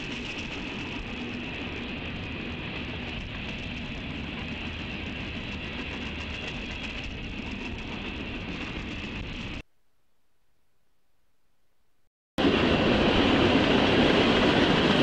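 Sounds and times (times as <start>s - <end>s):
train wheels rumbling on track: 0.0s - 9.6s, 12.4s - 15.0s.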